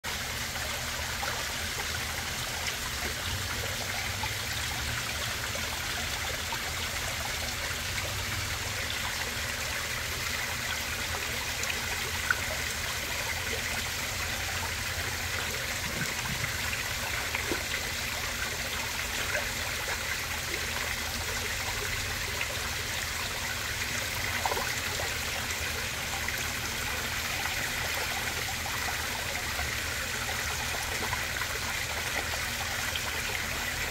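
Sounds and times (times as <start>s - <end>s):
pond water trickling: 0.0s - 33.9s.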